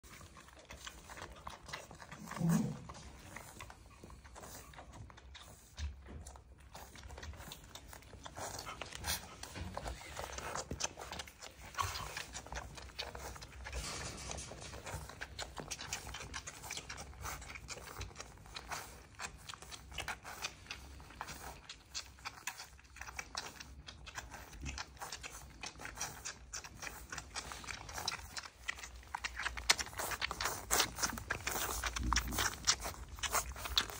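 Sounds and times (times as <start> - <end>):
puppies suckling: 0.0 - 33.9.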